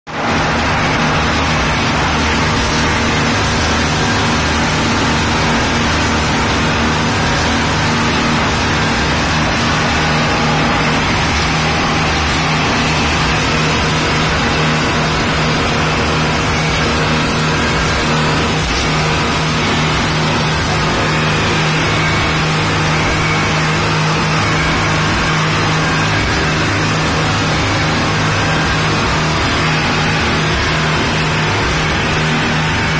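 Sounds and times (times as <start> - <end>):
speedboat engines droning: 0.1 - 32.9.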